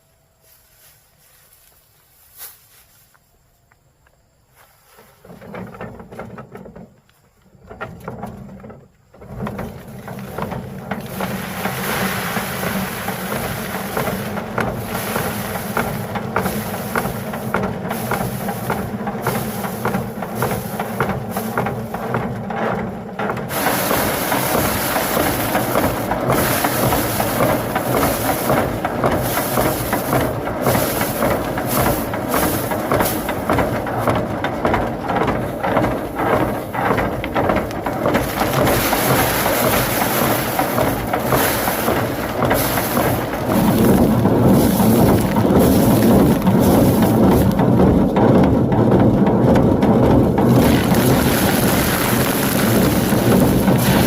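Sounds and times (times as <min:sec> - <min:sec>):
threshing machine rattling: 0:05.0 - 0:54.0.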